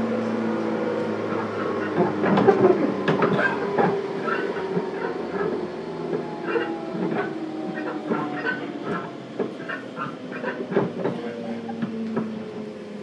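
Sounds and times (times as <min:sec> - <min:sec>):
traction motor whine: 0:00.0 - 0:13.0
wheels rumbling on rail: 0:00.0 - 0:13.0
rail joint clacks: 0:01.3 - 0:12.6.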